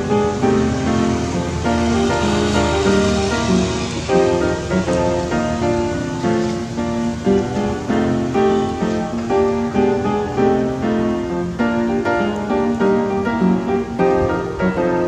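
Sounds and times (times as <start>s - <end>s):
piano: 0.0s - 15.0s.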